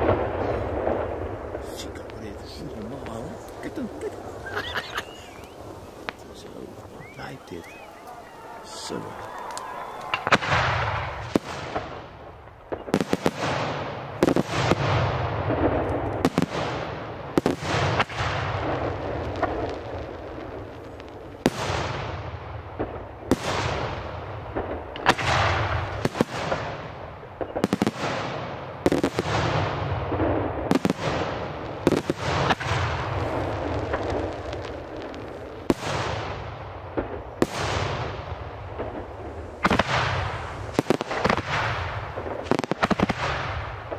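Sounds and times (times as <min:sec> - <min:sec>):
firework shells bursting: 0:00.0 - 0:43.9.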